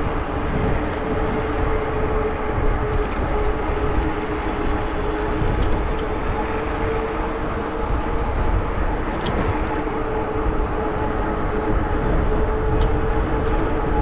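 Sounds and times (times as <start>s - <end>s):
tyre and wind rumble: 0.0s - 14.0s.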